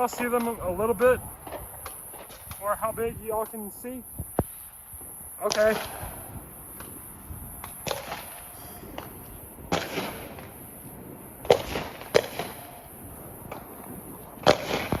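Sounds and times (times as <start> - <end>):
distant fireworks bangs: 0.0 - 15.0
faint fireworks pops: 0.0 - 15.0.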